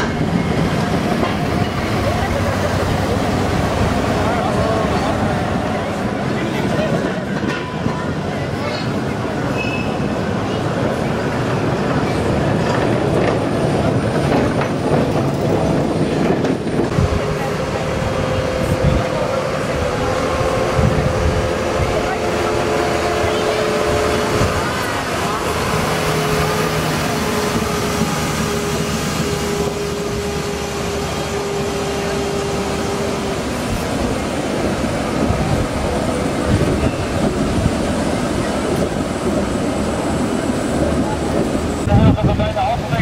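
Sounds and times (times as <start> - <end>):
street sweeper truck running: 0.0 - 9.5, 16.9 - 43.0
tram wheels rumbling on rails: 0.0 - 43.0.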